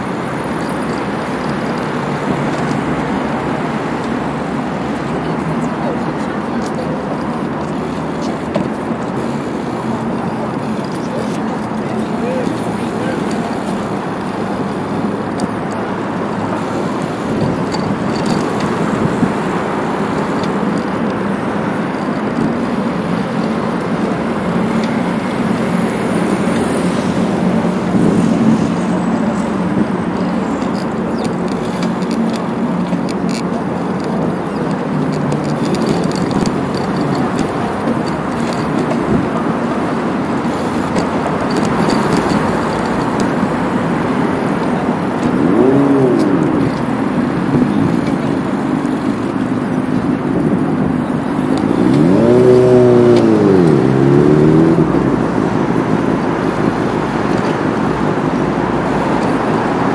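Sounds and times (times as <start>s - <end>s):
bicycle rolling over paving tiles: 0.0s - 59.9s.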